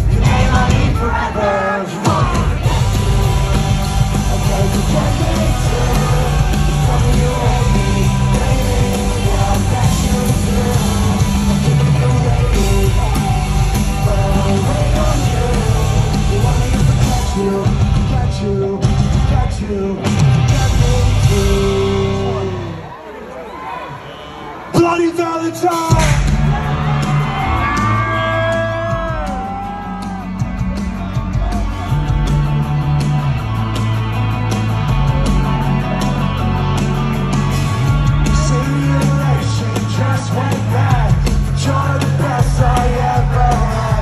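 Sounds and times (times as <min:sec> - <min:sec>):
live rock music with singer: 0:00.0 - 0:23.1, 0:24.5 - 0:44.0.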